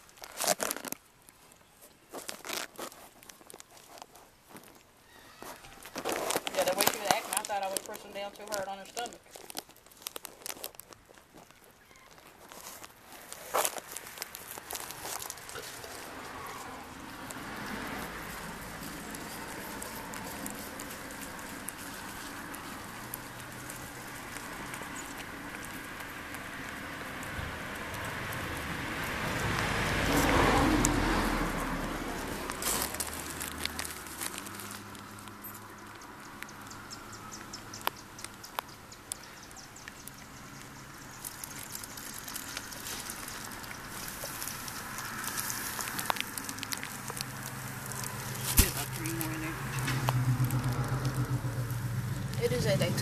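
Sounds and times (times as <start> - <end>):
rustling against fur and bedding: 0.0 - 36.8, 37.4 - 53.0.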